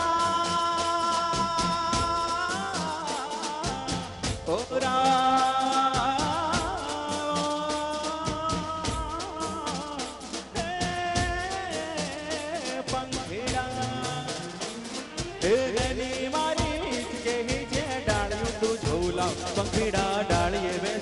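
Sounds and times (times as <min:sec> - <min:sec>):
man singing into microphone: 0:00.0 - 0:21.0
steady drum beat: 0:00.0 - 0:21.0.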